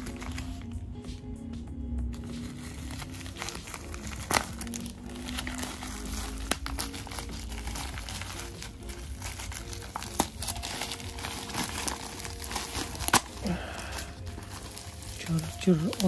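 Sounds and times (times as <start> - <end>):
plastic packaging crinkling: 0.0 - 0.8, 2.2 - 16.0.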